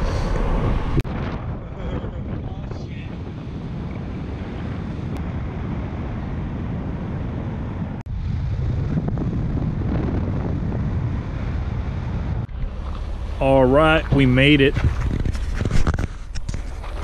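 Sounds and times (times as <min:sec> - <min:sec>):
road and tyre noise: 0:00.0 - 0:17.0
wind rushing over camera: 0:00.0 - 0:17.0.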